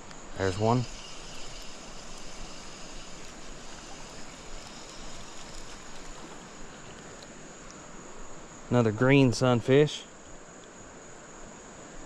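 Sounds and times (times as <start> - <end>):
creek water running: 0.0 - 10.8
insects high note: 0.2 - 10.1.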